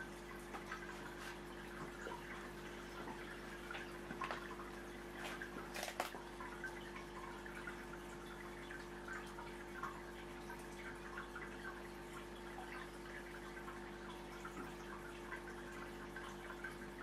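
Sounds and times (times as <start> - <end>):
pump hum: 0.0 - 17.0
water trickling and dripping: 0.0 - 17.0.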